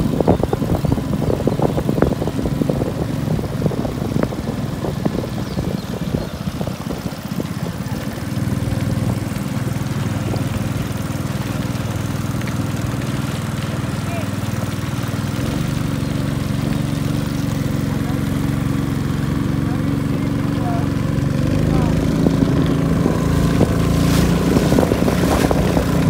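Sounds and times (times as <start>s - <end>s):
boat engine droning: 0.0s - 26.0s
water splashing: 0.0s - 26.0s.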